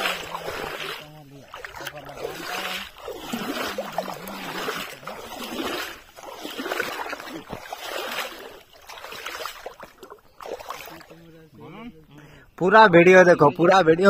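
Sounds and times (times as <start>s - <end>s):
water splashing and sloshing: 0.0s - 11.6s.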